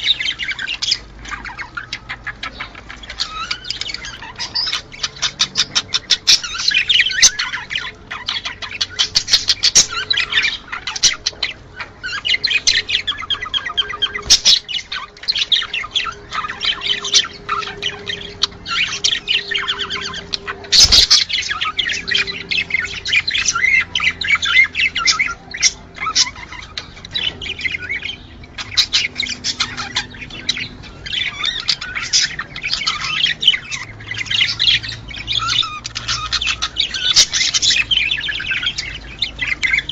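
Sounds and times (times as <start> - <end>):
birds squawking: 0.0 - 39.9
budgerigars chattering and warbling: 0.0 - 39.9.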